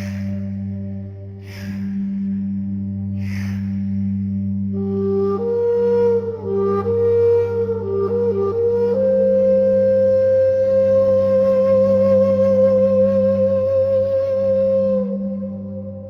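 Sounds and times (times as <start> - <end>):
flute-like long note: 0.0 - 16.0
steady low drone: 0.0 - 16.0.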